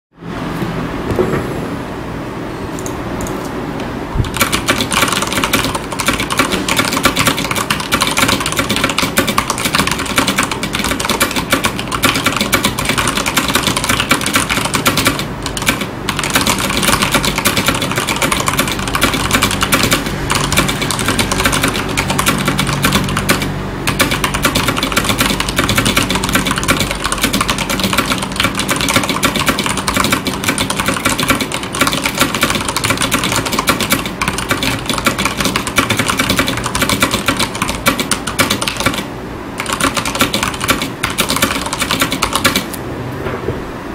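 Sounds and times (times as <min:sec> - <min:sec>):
mechanical keyboard typing: 0:04.2 - 0:42.8.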